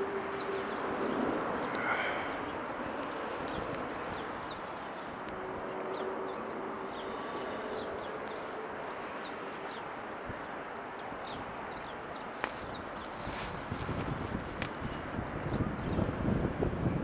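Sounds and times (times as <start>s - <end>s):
jet airliner flying overhead: 0.0s - 17.0s.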